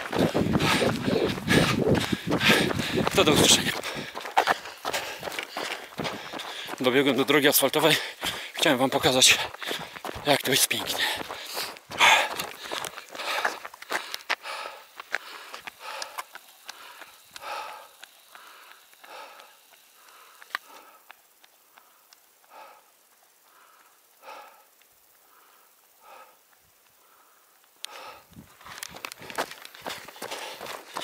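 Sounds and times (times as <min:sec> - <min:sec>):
person breathing hard: 0:00.0 - 0:06.8, 0:07.8 - 0:31.0.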